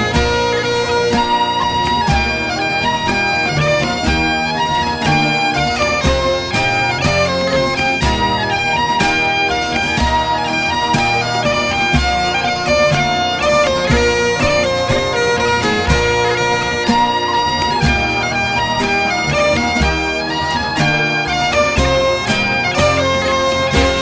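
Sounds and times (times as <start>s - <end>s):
bagpipe melody with drone: 0.0s - 24.0s
drumbeat: 0.0s - 24.0s.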